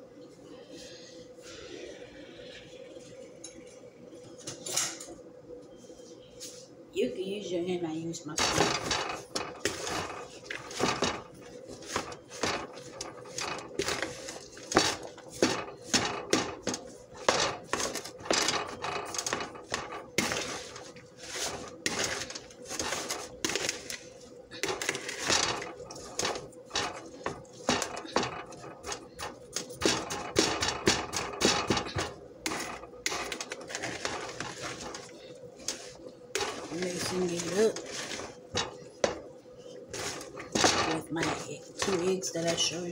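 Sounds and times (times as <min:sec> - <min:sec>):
faint steady hum: 0:00.0 - 0:42.9
utensil scraping plastic bowl: 0:08.4 - 0:42.9.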